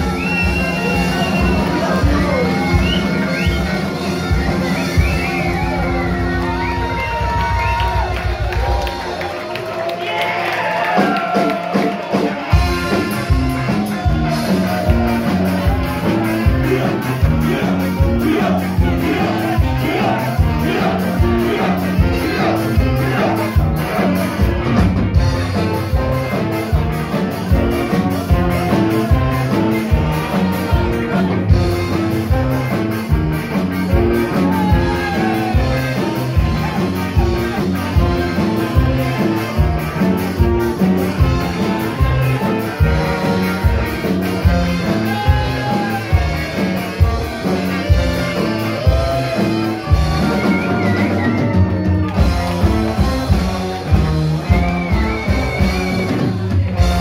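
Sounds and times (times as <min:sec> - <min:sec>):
bass guitar: 0:00.0 - 0:57.0
electric guitars: 0:00.0 - 0:57.0
drum beat: 0:10.6 - 0:57.0.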